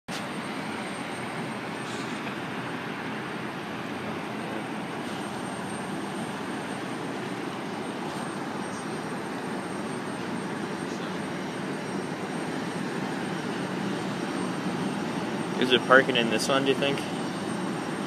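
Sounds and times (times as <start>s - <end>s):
jet engines rushing: 0.1s - 18.0s.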